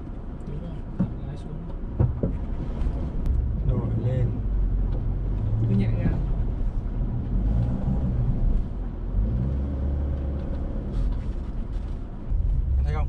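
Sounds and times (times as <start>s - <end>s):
car engine and tyres on rough ground: 0.0s - 13.0s.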